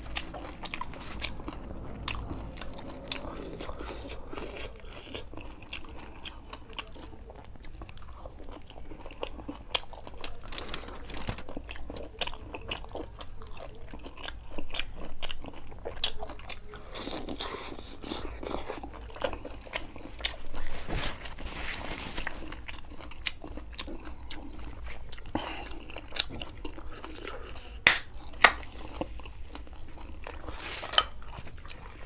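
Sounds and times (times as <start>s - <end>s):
biting food: 0.0s - 32.0s
person chewing with wet mouth sounds: 0.0s - 32.0s.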